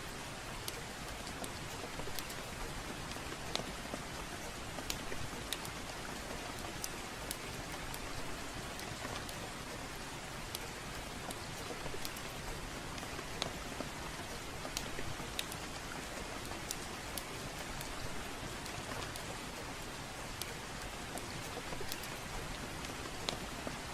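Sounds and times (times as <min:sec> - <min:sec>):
steady rainfall: 0:00.0 - 0:23.9
wood fire crackling: 0:00.2 - 0:23.9.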